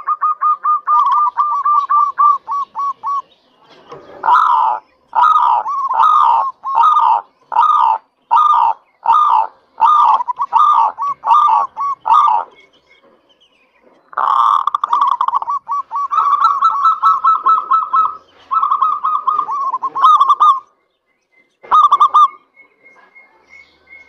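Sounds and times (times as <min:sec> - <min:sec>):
dove cooing: 0:00.0 - 0:12.7, 0:14.1 - 0:20.7, 0:21.6 - 0:24.0.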